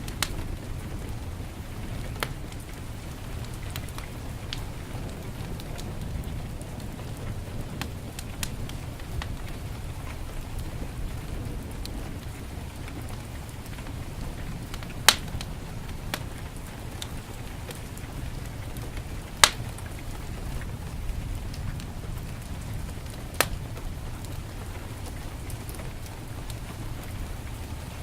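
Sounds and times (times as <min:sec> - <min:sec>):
fire crackling and popping: 0:00.0 - 0:28.0
heavy rain: 0:00.0 - 0:28.0.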